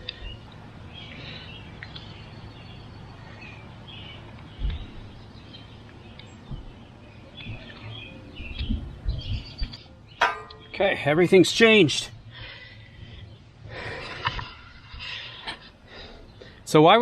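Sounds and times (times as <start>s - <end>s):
birds chirping: 0.0s - 17.0s
faint outdoor ambience: 0.0s - 17.0s.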